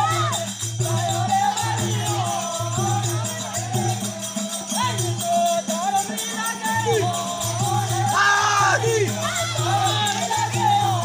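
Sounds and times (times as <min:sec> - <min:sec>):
rattling percussion: 0:00.0 - 0:11.0.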